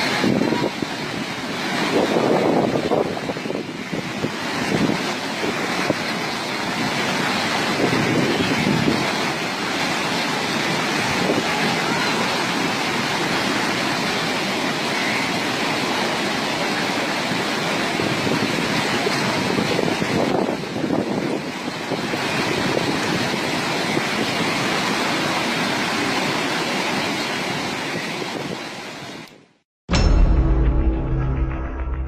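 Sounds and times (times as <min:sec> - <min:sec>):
river rushing: 0:00.0 - 0:29.4.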